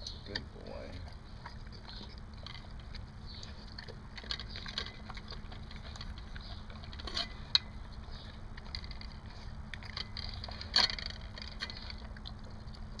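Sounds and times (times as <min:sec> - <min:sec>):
dog chewing and crunching: 0:00.0 - 0:13.0
teeth clicking on metal bowl: 0:00.0 - 0:13.0.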